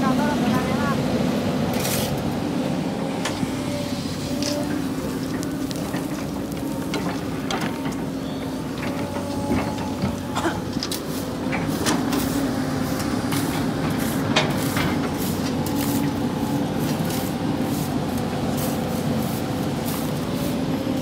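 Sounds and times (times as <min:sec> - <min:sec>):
excavator engine humming and whining: 0:00.0 - 0:21.0.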